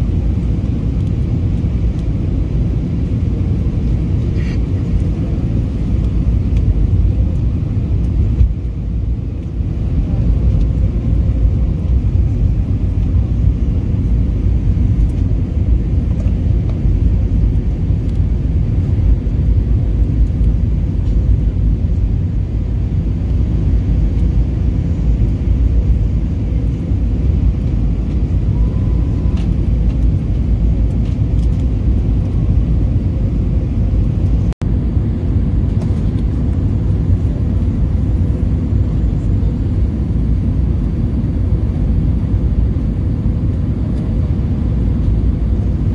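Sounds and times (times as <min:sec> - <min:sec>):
airliner cabin rumble: 0:00.0 - 0:45.9.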